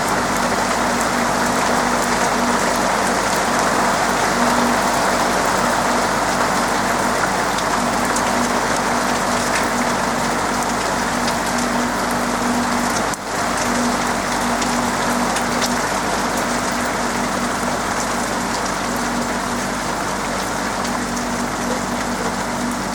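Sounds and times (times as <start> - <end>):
heavy rain on a roof: 0.0 - 22.9.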